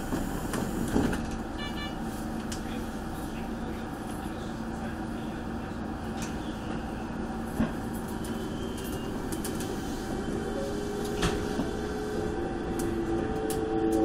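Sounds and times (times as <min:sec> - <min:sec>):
electric train running noise: 0:00.0 - 0:14.0.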